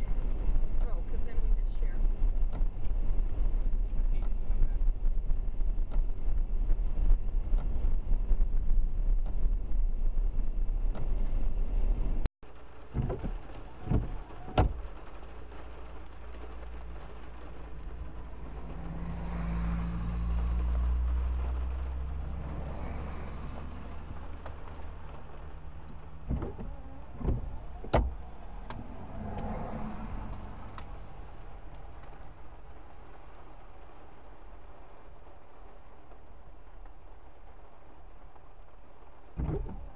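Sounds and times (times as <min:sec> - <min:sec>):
low engine hum: 0:00.0 - 0:39.9
tyres rumbling on wet gravel: 0:00.0 - 0:39.9.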